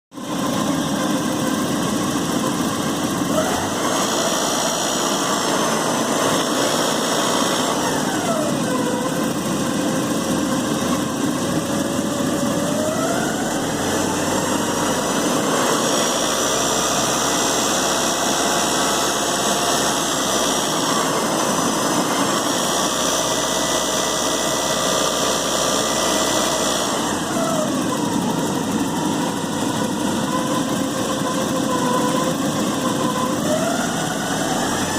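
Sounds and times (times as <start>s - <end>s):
engine rattle: 0.1s - 34.9s
car engine revving and idling: 0.2s - 34.9s.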